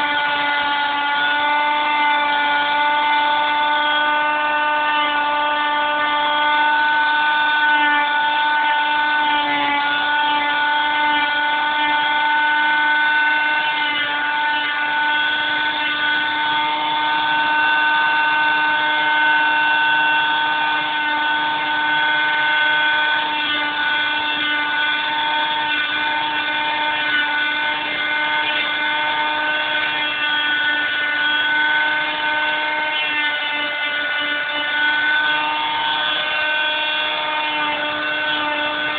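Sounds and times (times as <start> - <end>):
electric grinder grinding wood: 0.0 - 38.9.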